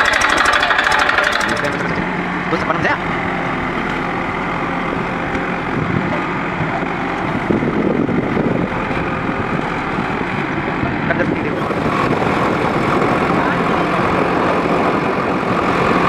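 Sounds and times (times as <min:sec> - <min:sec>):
backhoe digging earth: 0:00.0 - 0:16.0
diesel engine running: 0:00.0 - 0:16.0.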